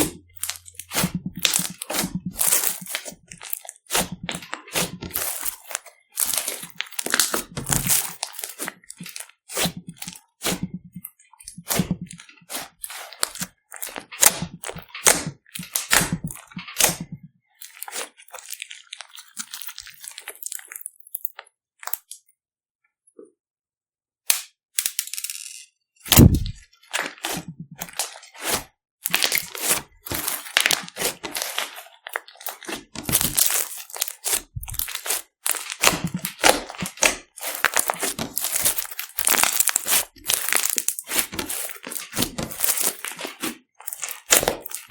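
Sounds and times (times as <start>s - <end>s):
slime squeezed crackling and popping: 0.0s - 22.2s, 26.1s - 44.9s.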